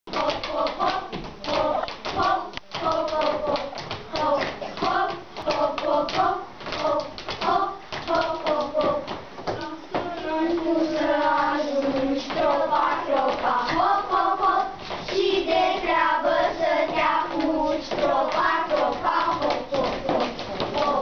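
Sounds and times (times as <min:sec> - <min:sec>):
children singing: 0:00.1 - 0:21.0
rhythmic taps and claps: 0:00.1 - 0:21.0.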